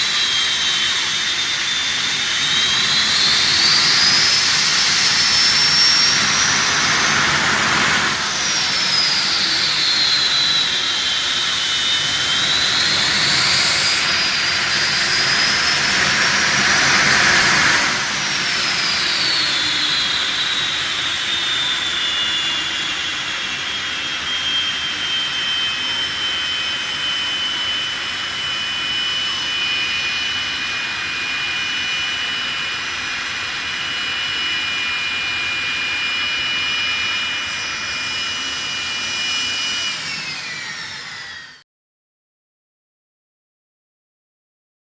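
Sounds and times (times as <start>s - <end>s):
jet turbine whine: 0.0s - 41.6s.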